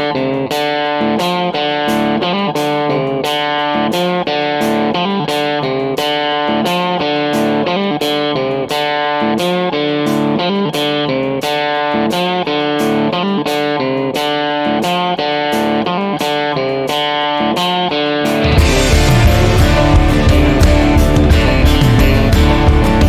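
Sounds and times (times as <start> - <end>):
electric guitar background music: 0.0 - 23.0.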